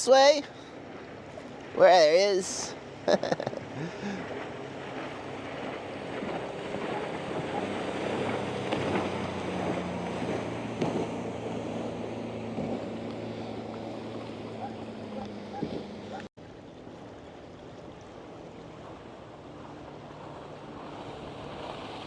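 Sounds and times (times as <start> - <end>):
motorboat engine droning: 0.0 - 22.0
water wash: 0.0 - 22.0.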